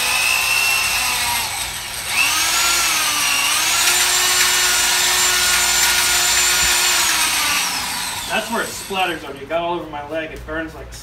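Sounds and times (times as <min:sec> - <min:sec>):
electric drill wire brush on tile: 0:00.0 - 0:09.3.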